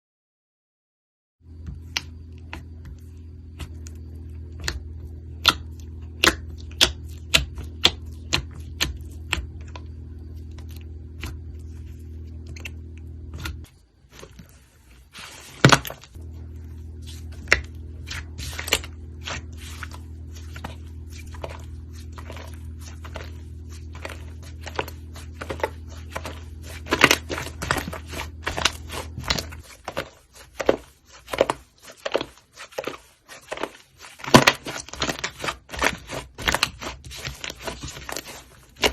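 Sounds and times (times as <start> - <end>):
steady low hum: 1.4 - 38.9.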